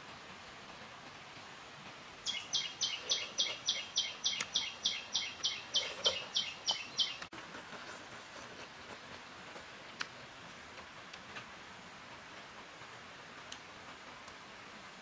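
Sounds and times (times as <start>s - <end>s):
faint forest background: 0.0s - 15.0s.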